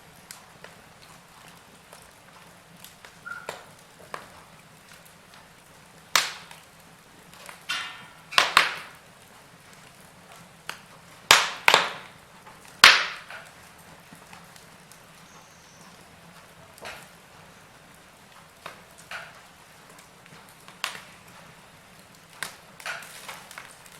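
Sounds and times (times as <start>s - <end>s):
burning logs popping: 0.0s - 23.9s
wood fire crackling: 0.0s - 23.9s.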